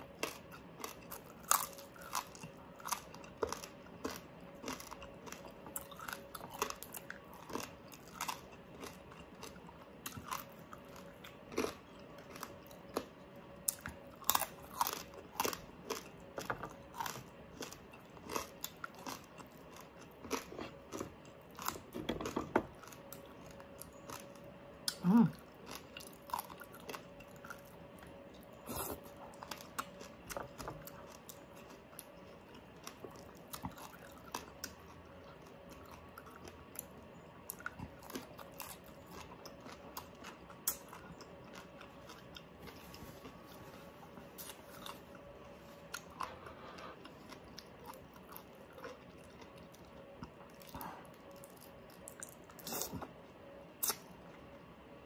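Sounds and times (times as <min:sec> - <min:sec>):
crisp crunching and chewing: 0:00.0 - 0:54.1.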